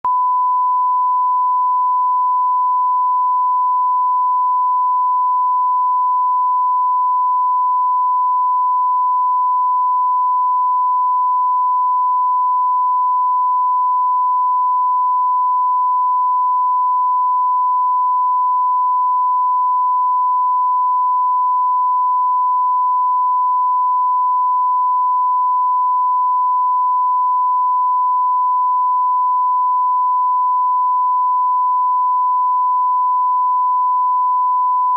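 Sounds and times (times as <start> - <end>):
steady sine test tone: 0.0 - 34.9.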